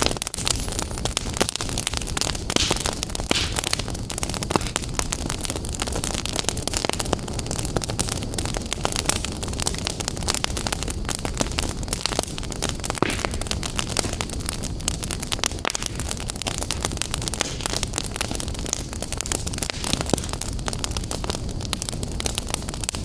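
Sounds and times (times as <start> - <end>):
fire crackling and popping: 0.0 - 23.0
fire rumbling: 0.0 - 23.0.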